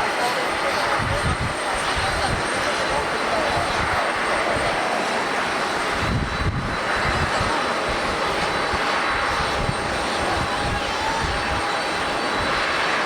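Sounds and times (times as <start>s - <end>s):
jet engines roaring: 0.0s - 13.0s
wind on microphone: 0.8s - 13.0s.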